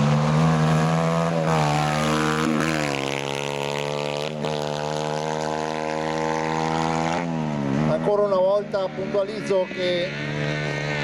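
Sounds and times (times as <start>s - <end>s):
buggy engine at high revs: 0.0s - 11.0s.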